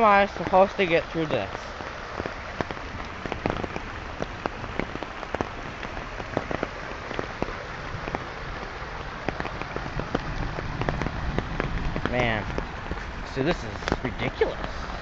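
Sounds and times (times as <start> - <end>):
heavy rain falling: 0.0 - 15.0
raindrops hitting near microphone: 0.0 - 15.0.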